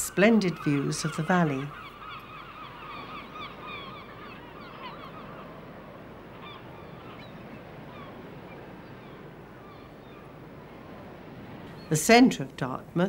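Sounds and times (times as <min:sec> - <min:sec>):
flock of birds calling: 0:00.0 - 0:12.0
steady background hiss: 0:00.0 - 0:13.0.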